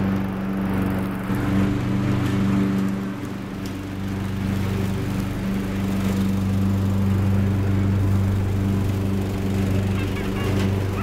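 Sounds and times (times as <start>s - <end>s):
riding lawn mower engine: 0.0s - 11.0s.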